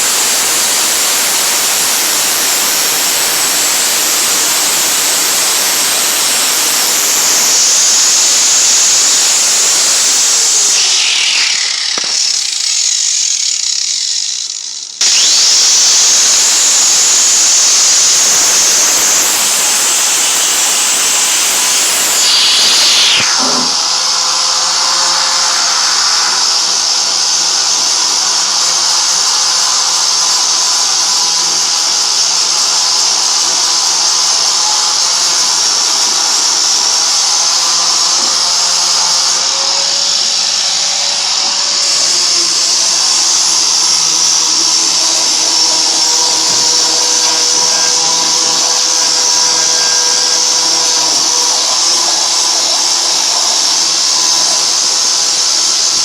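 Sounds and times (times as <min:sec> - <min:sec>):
electric grinder on sheet steel: 0:00.0 - 0:56.0.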